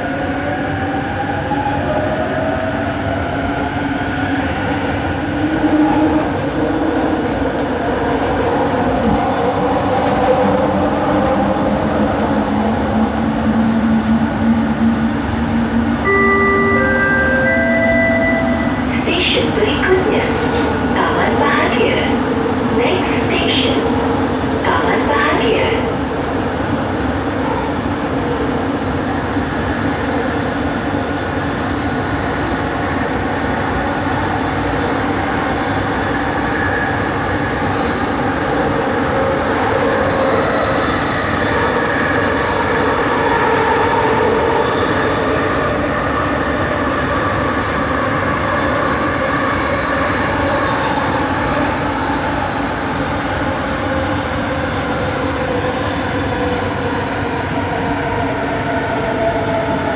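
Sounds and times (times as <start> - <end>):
metro train running rumble: 0.0 - 59.9.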